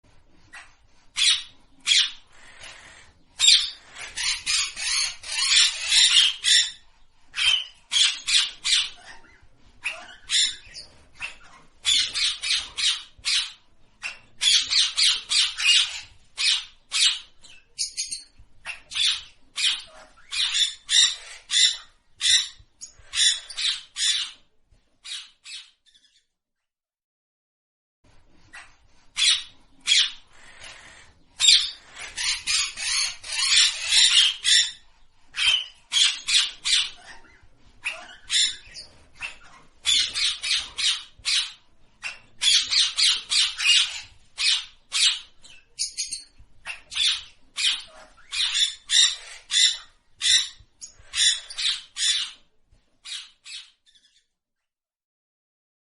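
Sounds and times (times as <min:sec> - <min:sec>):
parrot squawking: 0:00.4 - 0:26.0, 0:28.5 - 0:54.2.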